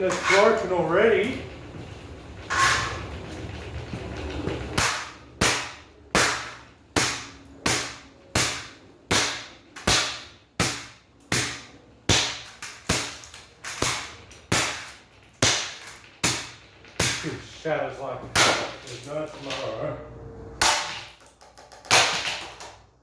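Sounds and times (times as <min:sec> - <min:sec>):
hard blows smashing exhaust fan: 0:00.0 - 0:23.0.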